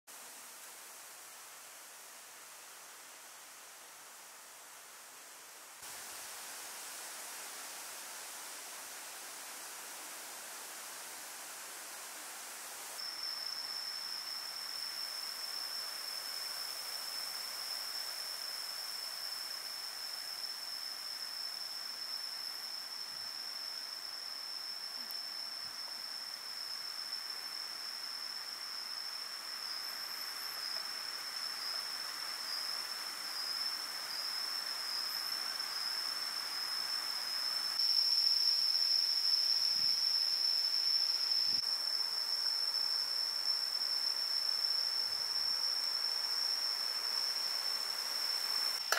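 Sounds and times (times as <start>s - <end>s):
soft ambient hiss: 0.1s - 48.9s
insects high-pitched drone: 6.4s - 48.9s.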